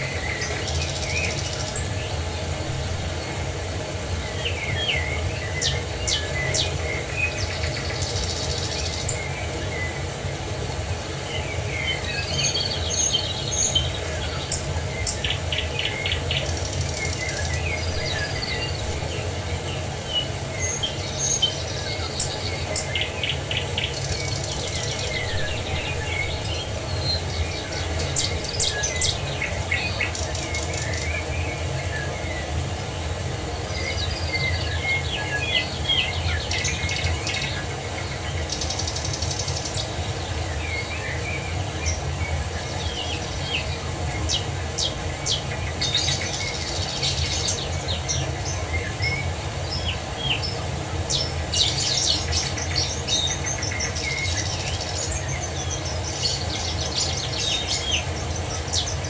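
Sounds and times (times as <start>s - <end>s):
birds singing and chirping: 0.0s - 59.0s.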